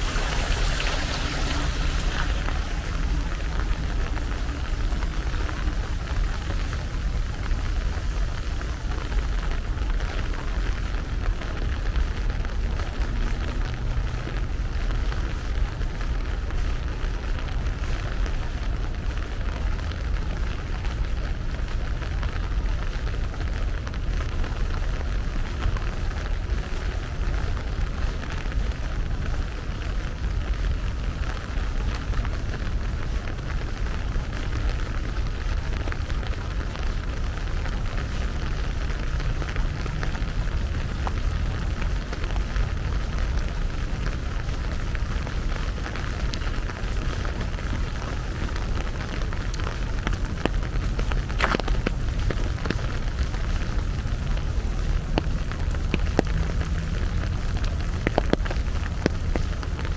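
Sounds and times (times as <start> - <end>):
low steady rumble: 0.0 - 59.9
rain patter: 0.0 - 59.9.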